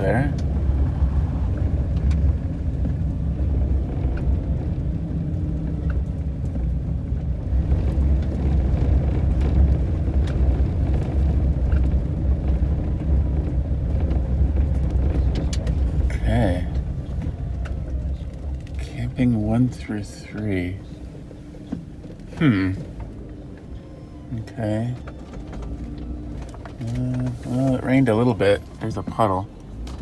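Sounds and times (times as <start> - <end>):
van engine and tyres rumbling: 0.0 - 30.0
small rattles and clicks: 1.5 - 30.0.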